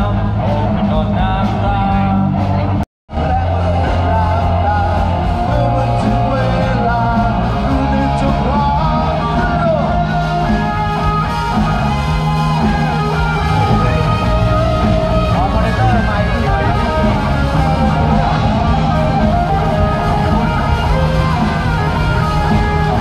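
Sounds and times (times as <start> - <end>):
rock music with singing and guitar: 0.0 - 23.0.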